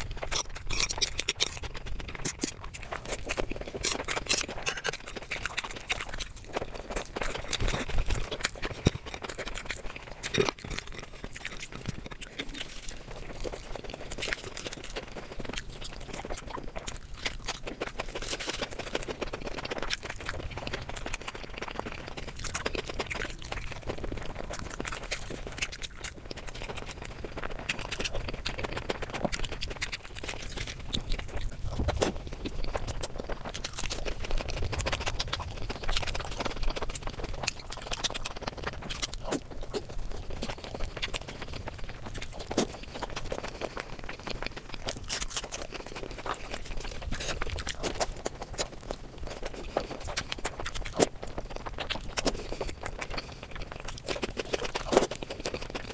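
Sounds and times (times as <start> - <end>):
lip smacks and mouth clicks: 0.0 - 55.9
wet chewing: 0.0 - 55.9.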